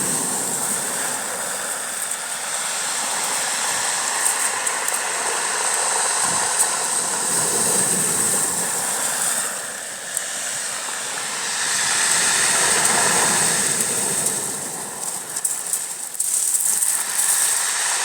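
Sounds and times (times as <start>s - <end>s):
waves washing onto shore: 0.0s - 18.0s.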